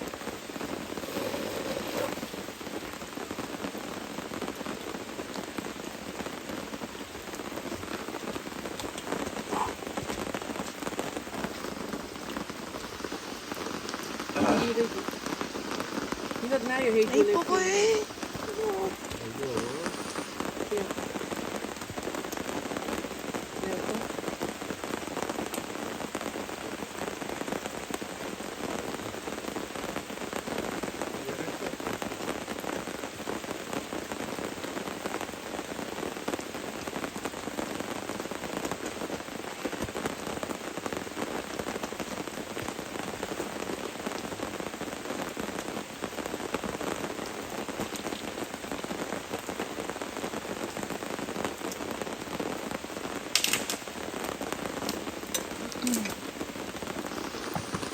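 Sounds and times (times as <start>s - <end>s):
raindrops hitting surfaces: 0.0s - 57.9s
steady rain falling: 0.0s - 57.9s.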